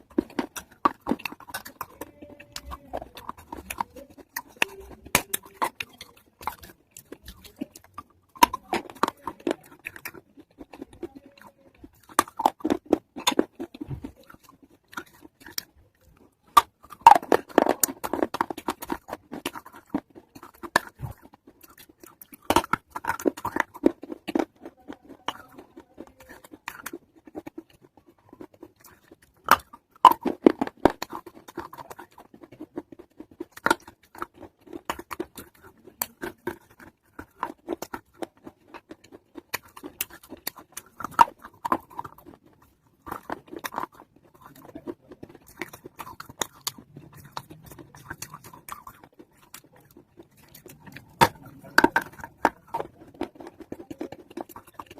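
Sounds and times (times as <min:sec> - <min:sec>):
crunching of clay being chewed: 0:00.0 - 0:54.9.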